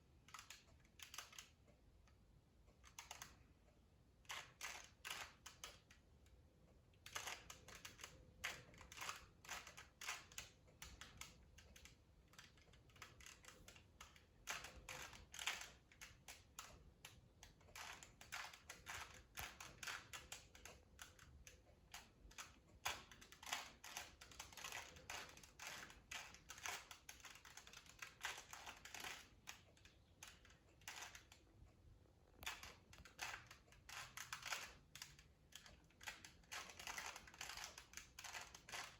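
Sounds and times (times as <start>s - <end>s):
puzzle cube clicking: 4.3s - 6.0s, 7.0s - 31.4s, 32.4s - 38.9s.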